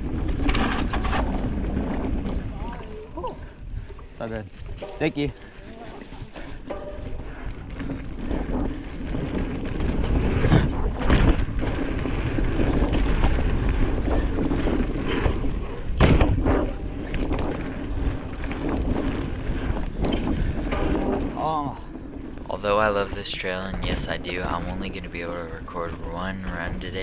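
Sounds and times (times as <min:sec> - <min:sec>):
bike knocking and rattling: 0:00.0 - 0:27.0
bike tyres rolling on dirt: 0:00.0 - 0:27.0
wind on microphone: 0:00.0 - 0:27.0.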